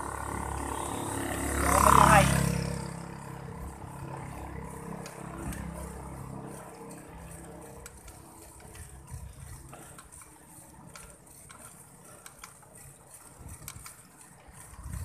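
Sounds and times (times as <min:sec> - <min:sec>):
bicycle clicks and rattles: 0:00.0 - 0:15.0
road noise: 0:00.0 - 0:15.0.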